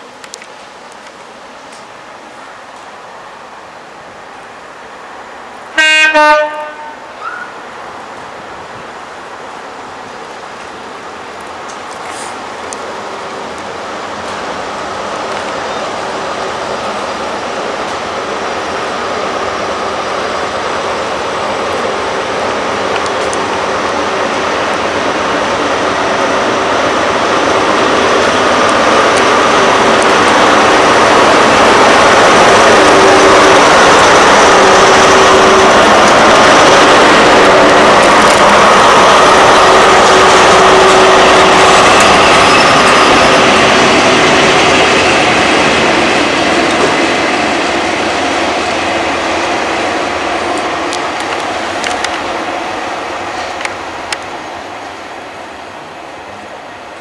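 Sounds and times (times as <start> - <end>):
train passing close by: 0.0 - 57.0.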